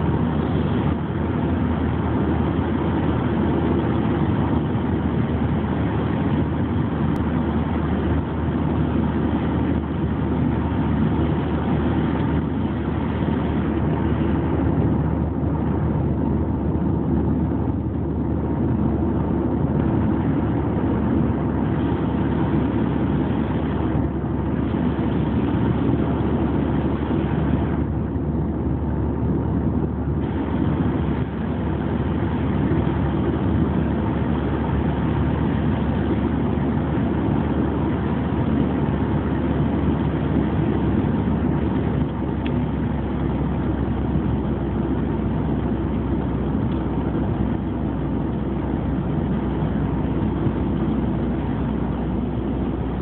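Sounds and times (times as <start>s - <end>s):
car cabin engine and tyre drone: 0.0s - 53.0s.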